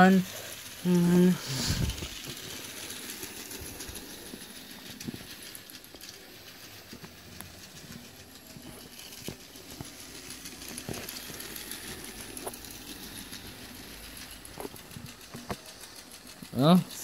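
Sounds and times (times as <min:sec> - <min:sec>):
toy train clicks: 0:00.0 - 0:17.0
toy train motor whirring: 0:00.0 - 0:17.0.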